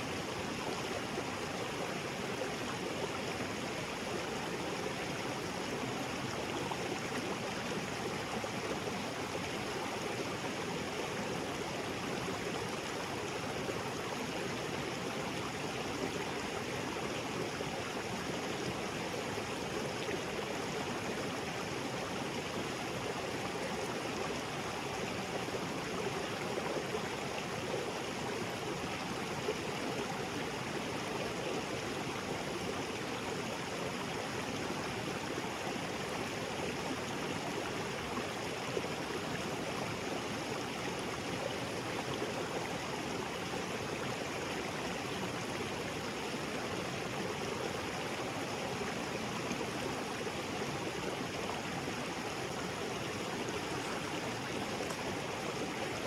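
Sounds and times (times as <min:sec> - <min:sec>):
small waterfall splashing: 0:05.4 - 0:56.0.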